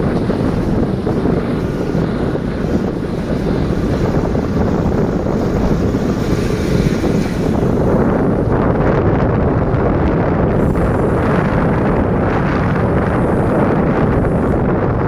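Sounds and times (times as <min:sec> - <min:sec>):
moving vehicle noise: 0:00.0 - 0:15.0
wind rumble on microphone: 0:00.0 - 0:15.0.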